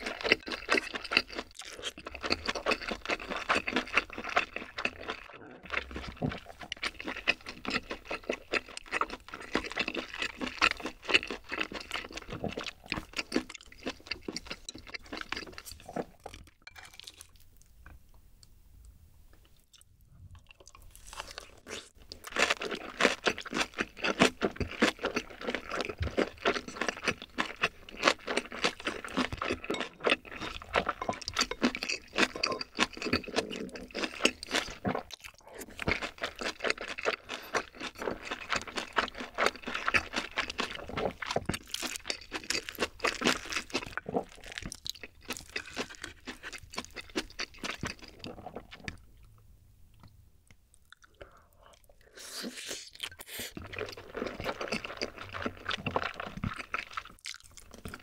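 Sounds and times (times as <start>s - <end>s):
close-miked chewing and crunching: 0.0s - 18.5s, 19.3s - 58.0s.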